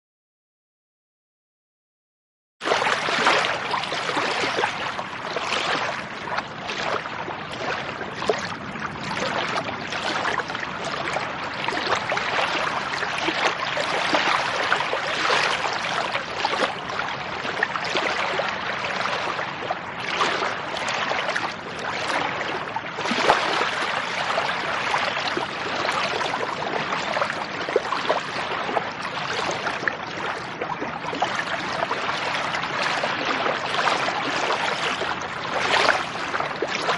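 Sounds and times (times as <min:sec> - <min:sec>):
lake water lapping: 0:02.6 - 0:36.9
small splashes and trickles: 0:02.6 - 0:36.9.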